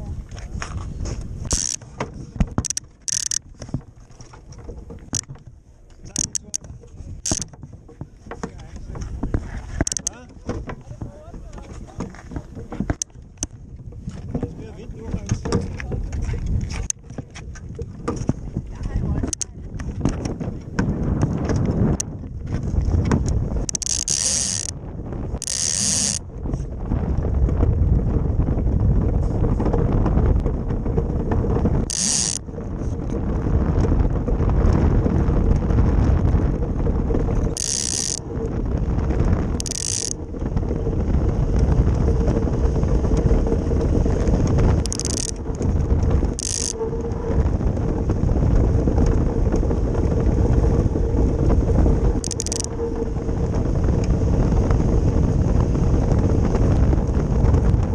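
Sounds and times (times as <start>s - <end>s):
steel runners rumbling over ice: 0.0s - 57.9s.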